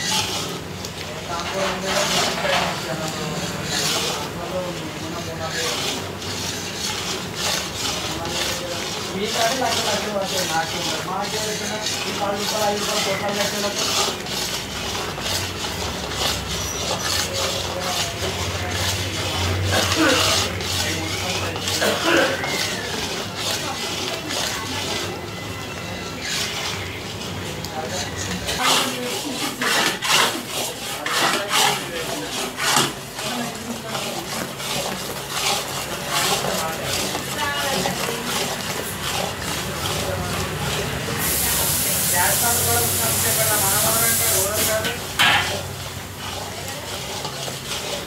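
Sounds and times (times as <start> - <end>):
metal spoon scraping iron pan: 0.0 - 48.0.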